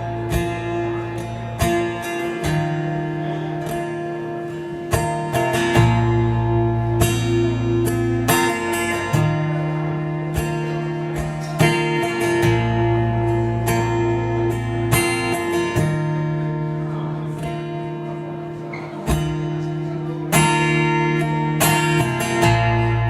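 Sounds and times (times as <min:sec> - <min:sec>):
acoustic guitar strummed: 0:00.0 - 0:23.0.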